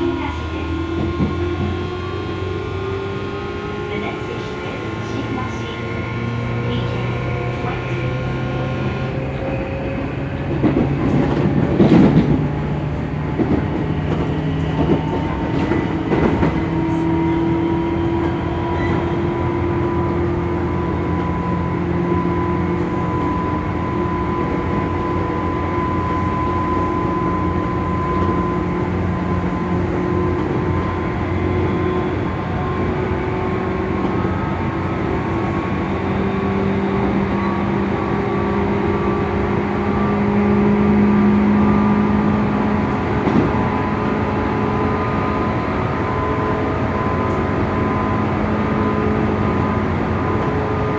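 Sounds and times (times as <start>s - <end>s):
electric train whining: 0.0s - 50.9s.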